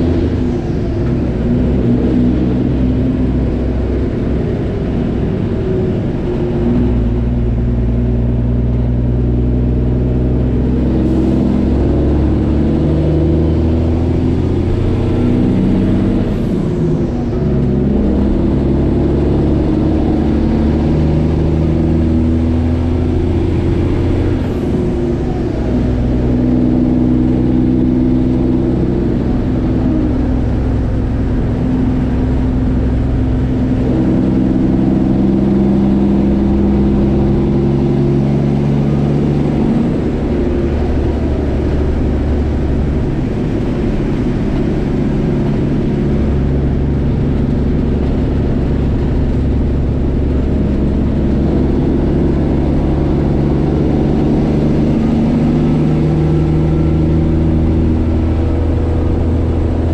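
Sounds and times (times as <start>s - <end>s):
diesel truck engine droning: 0.0s - 59.9s.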